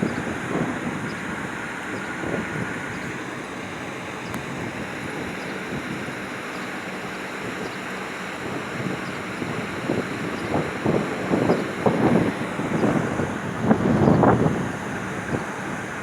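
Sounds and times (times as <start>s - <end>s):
air conditioner fans rushing: 0.0s - 16.0s.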